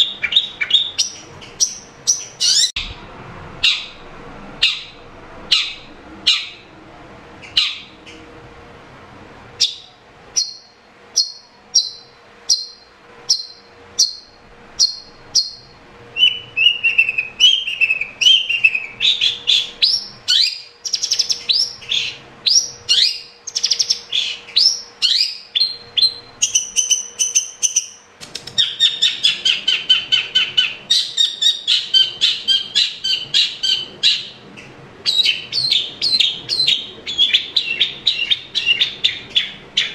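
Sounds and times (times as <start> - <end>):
shrike singing: 0.0 - 3.0, 9.6 - 39.9.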